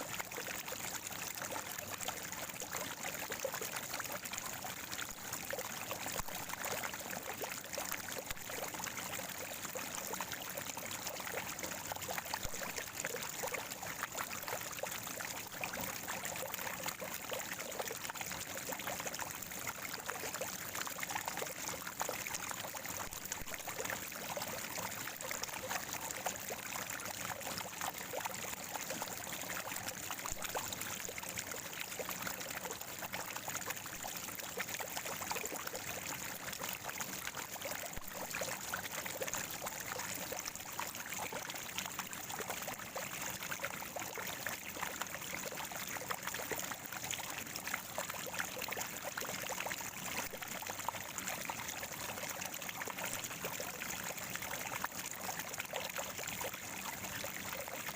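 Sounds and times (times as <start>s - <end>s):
spring water gurgling and trickling: 0.0s - 57.9s.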